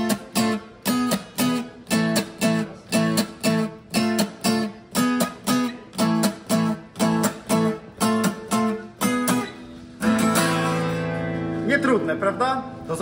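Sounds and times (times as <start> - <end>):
acoustic guitar strummed: 0.0 - 12.9.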